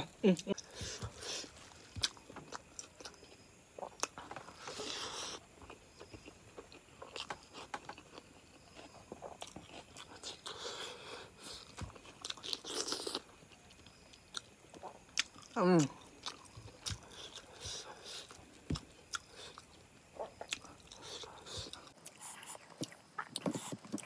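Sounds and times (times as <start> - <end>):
close chewing with mouth clicks: 0.4 - 24.0.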